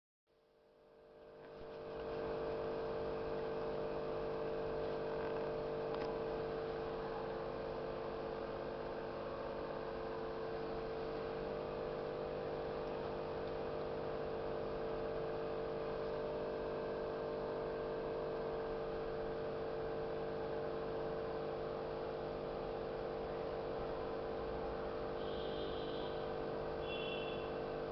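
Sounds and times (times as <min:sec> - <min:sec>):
steady mechanical hum: 0:00.4 - 0:27.9.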